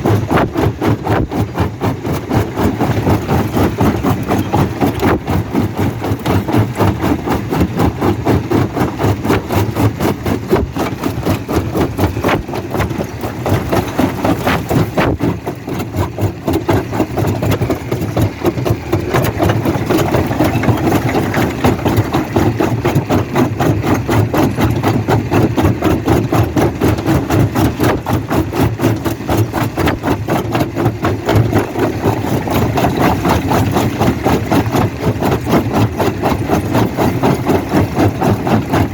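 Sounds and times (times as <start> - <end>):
rock crusher pulsing: 0.0 - 38.9.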